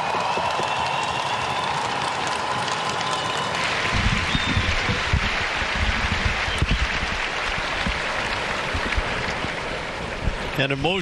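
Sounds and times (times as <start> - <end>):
crowd applauding: 0.0 - 10.1.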